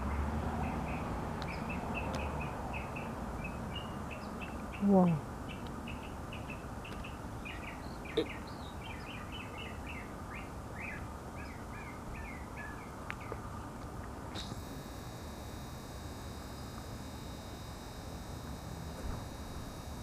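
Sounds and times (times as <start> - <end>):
small birds chirping: 0.1 - 13.8, 14.4 - 20.0.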